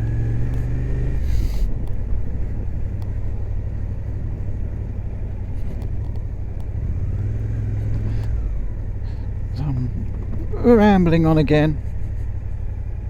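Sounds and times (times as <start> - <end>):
motorcycle engine: 0.0 - 13.0
wind and road rumble: 0.0 - 13.0.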